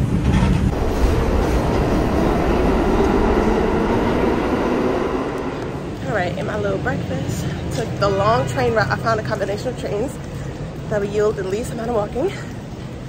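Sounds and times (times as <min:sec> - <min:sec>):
subway train rail noise: 0:00.0 - 0:13.0.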